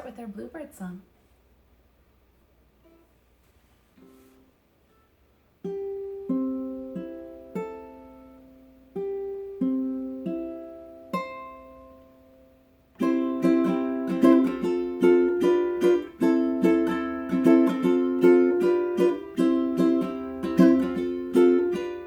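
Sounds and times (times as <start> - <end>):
strummed stringed instrument: 4.0 - 22.0.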